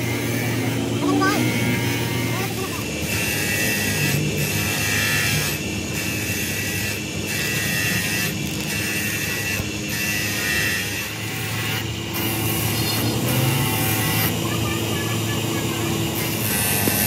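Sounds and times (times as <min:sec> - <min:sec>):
tool working metal: 0:00.0 - 0:17.0.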